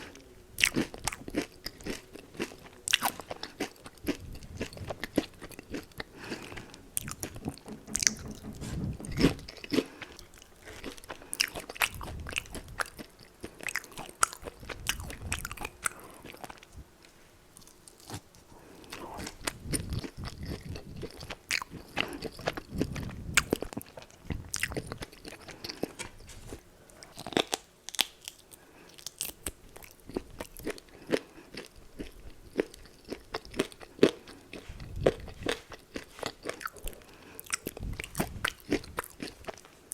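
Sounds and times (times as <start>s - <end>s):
crunching fried chicken: 0.0s - 7.5s, 10.6s - 16.7s, 17.6s - 26.2s, 27.0s - 39.9s.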